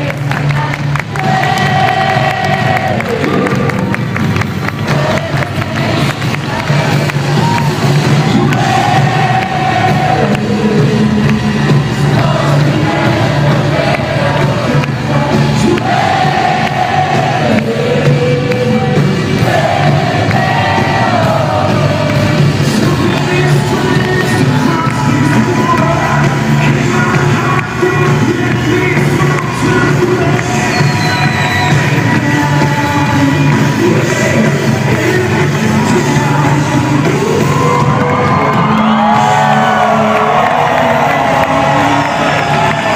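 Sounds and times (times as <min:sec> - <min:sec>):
crowd singing along: 0:00.0 - 0:03.9, 0:04.6 - 0:42.9
live worship band: 0:00.0 - 0:42.9.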